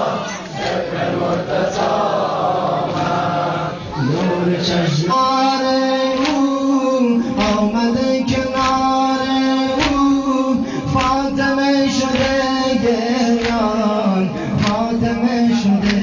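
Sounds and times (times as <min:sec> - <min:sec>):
man chanting a lament: 0:02.7 - 0:16.0.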